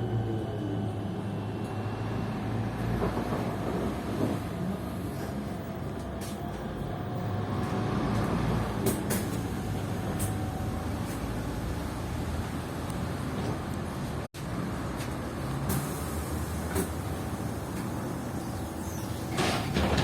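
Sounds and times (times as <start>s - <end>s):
trolleybus hum and rumble: 0.0s - 20.0s.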